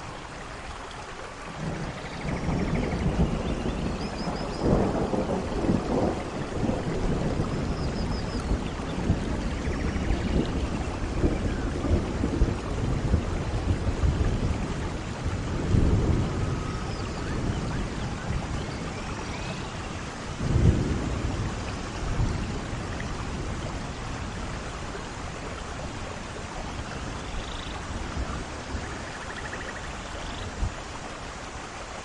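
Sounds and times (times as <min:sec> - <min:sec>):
rain falling on foliage: 0:00.0 - 0:32.0
thunder rumbling: 0:01.5 - 0:30.8.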